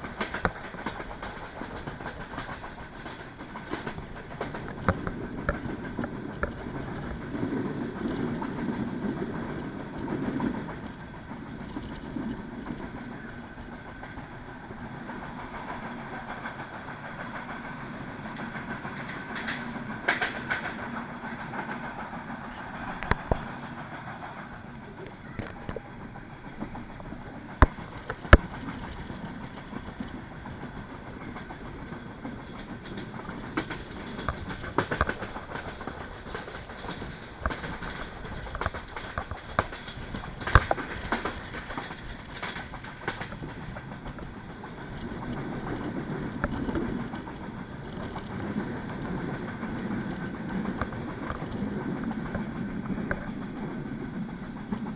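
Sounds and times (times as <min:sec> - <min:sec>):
sharp clacks and knocks: 0:00.0 - 0:08.7, 0:15.1 - 0:24.0, 0:26.6 - 0:54.9
train wheels rumbling on rails: 0:00.0 - 0:54.9.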